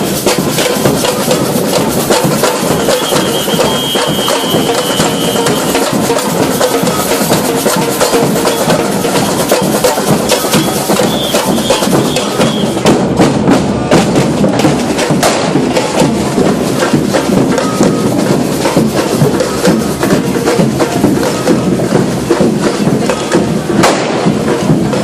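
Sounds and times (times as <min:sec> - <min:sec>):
crowd noise: 0:00.0 - 0:25.0
procession band drumming: 0:00.0 - 0:25.0
street noise: 0:00.0 - 0:25.0.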